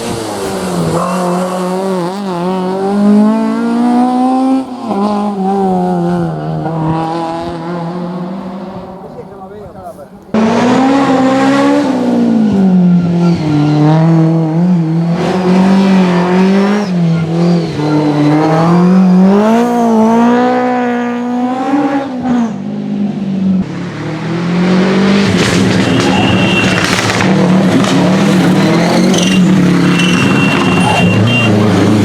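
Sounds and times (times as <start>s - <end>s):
rally car engine revving: 0.0s - 9.5s, 10.1s - 32.0s.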